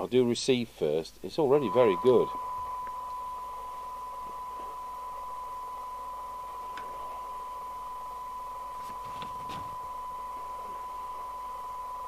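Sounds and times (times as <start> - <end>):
radio test tone: 1.5 - 12.0.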